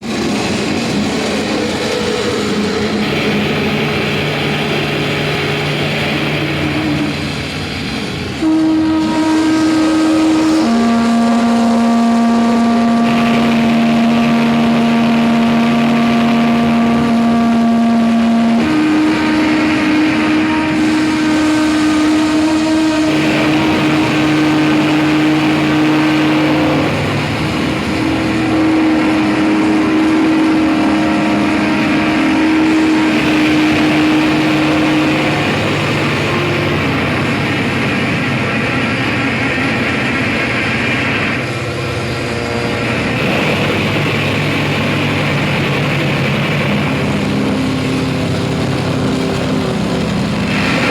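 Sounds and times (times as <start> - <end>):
sustained droning tones: 0.0 - 50.9
wall of distorted noise: 0.0 - 50.9.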